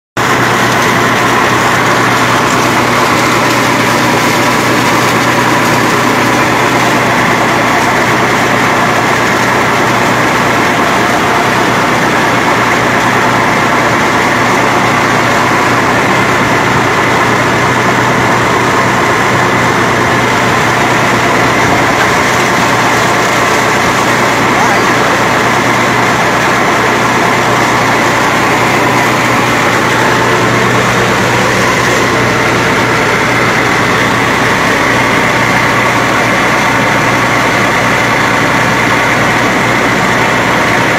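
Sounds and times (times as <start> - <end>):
tractor engine running: 0.2 - 40.9
water gushing from pump: 0.2 - 40.9.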